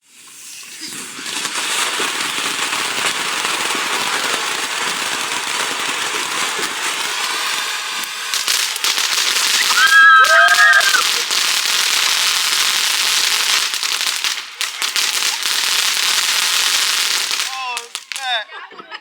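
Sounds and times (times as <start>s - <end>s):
firework hissing and crackling: 0.0s - 18.6s
sharp firework pops: 0.8s - 18.4s.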